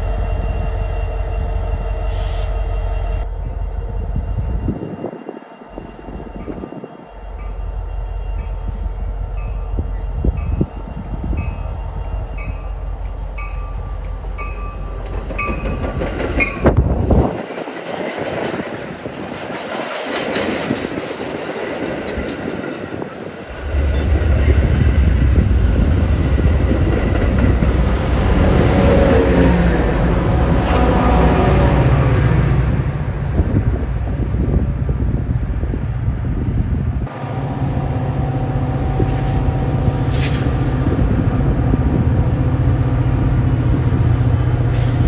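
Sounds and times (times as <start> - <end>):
deep locomotive rumble: 0.0 - 45.0
rail noise: 0.0 - 45.0.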